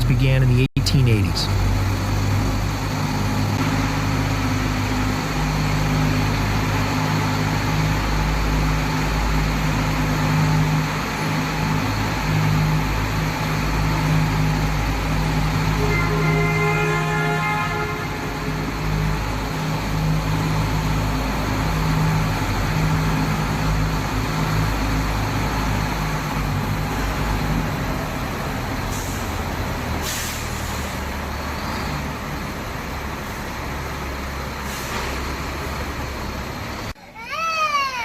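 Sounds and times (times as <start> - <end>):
large engine humming: 0.0 - 38.0.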